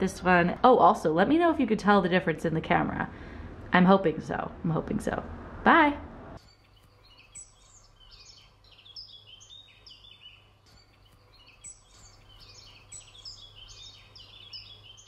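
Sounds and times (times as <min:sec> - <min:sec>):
low steady hum: 0:00.0 - 0:15.0
songbirds chirping: 0:00.0 - 0:15.0.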